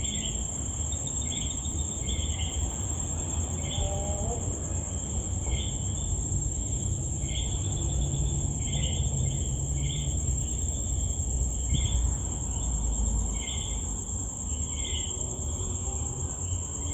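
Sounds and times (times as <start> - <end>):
crickets trilling: 0.0 - 16.9.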